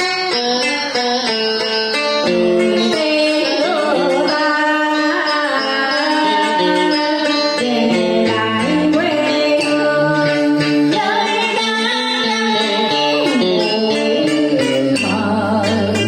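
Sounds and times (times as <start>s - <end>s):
amplified plucked strings: 0.0s - 16.0s
woman singing into microphone: 0.0s - 16.0s.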